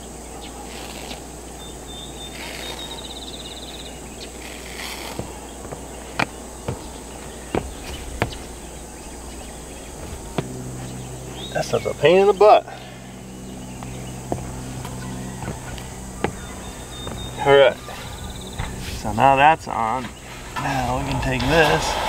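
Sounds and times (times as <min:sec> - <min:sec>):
high insect trill: 0:00.0 - 0:22.0.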